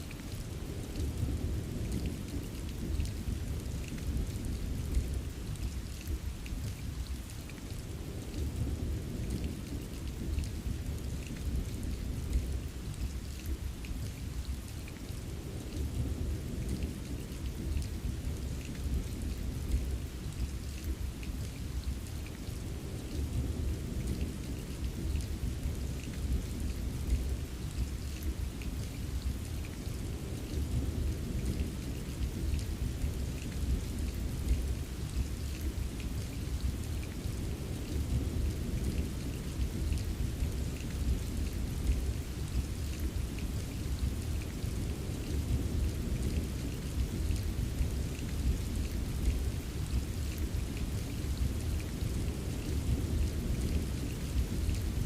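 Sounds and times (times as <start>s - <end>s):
raindrops pattering: 0.0s - 55.0s
steady rain: 0.0s - 55.0s.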